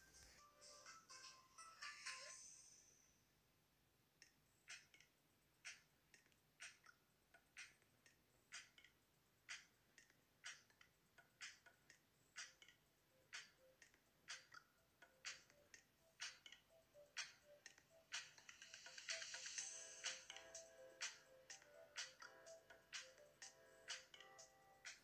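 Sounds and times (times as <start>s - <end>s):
faint regular ticking: 4.2s - 25.0s.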